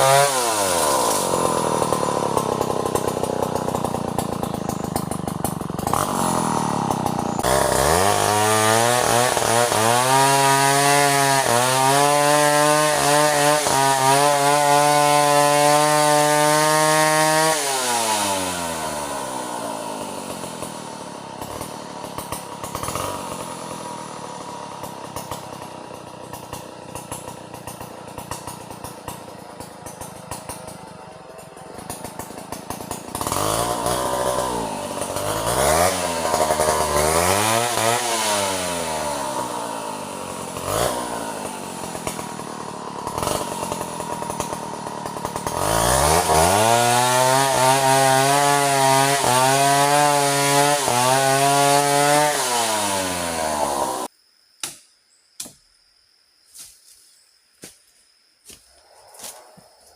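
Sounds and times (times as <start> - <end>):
chainsaw cutting a tree: 0.0 - 54.1.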